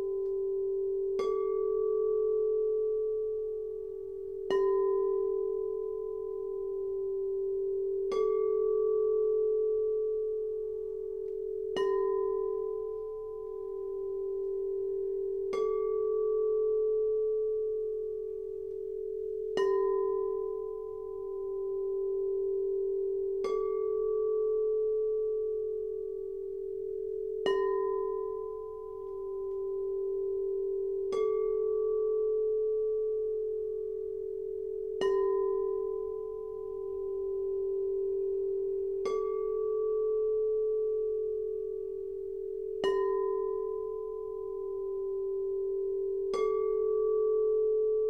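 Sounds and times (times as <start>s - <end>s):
crystal singing bowls ringing: 0.0s - 48.0s.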